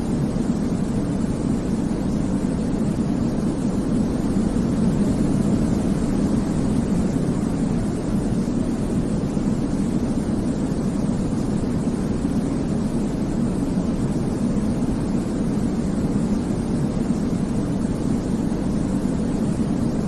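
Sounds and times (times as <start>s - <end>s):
deep white noise hiss: 0.0s - 20.0s.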